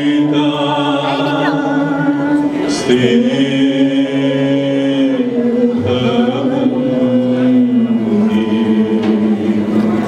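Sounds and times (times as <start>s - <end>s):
man and woman singing: 0.0s - 10.0s.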